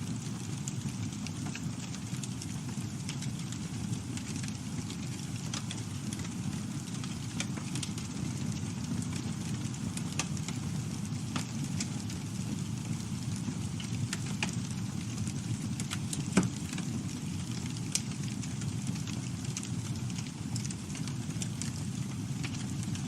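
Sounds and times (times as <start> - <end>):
burning wood crackling: 0.0 - 23.0
campfire rumble: 0.0 - 23.0
fire popping: 0.0 - 23.0.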